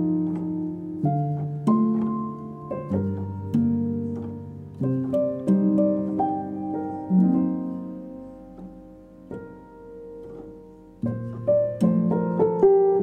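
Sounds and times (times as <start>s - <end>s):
instrumental music with ringing notes: 0.0s - 13.0s.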